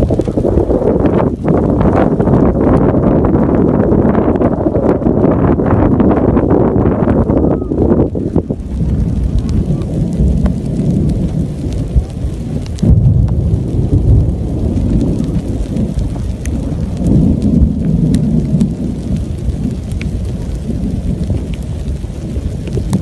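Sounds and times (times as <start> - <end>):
raindrops ticking: 0.0 - 23.0
thunder rumbling: 0.0 - 23.0.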